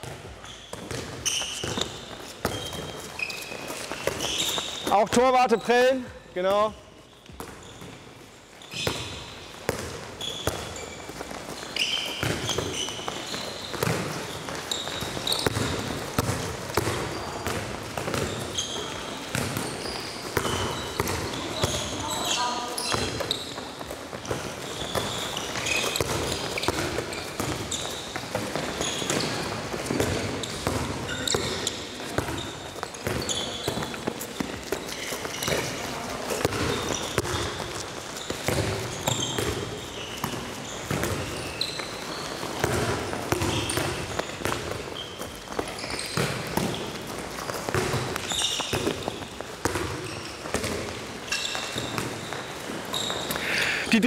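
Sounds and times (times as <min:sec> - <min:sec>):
handballs bouncing on hall floor: 0:00.0 - 0:54.0.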